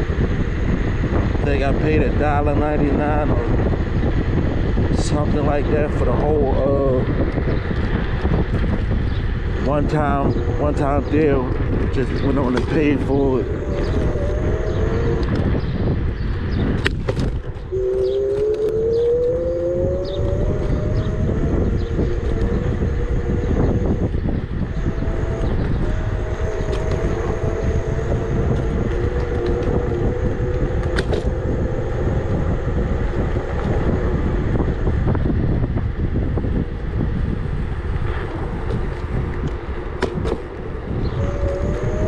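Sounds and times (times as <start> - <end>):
scooter hub motor whining: 0.0 - 42.0
wind buffeting microphone: 0.0 - 42.0.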